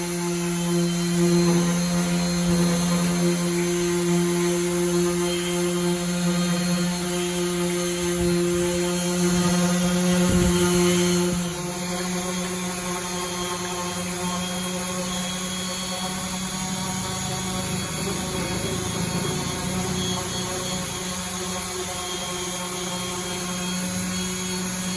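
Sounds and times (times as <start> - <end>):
orbital sander running: 0.0 - 24.9.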